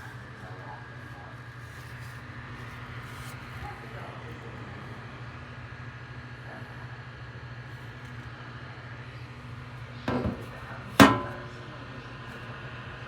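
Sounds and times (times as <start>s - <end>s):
neck fan humming: 0.0s - 13.0s.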